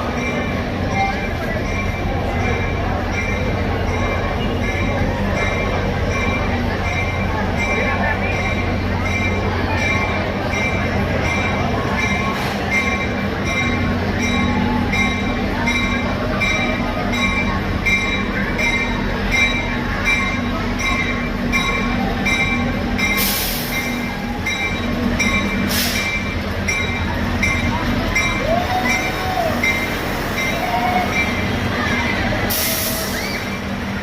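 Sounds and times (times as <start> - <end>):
locomotive engine drone: 0.0 - 34.0.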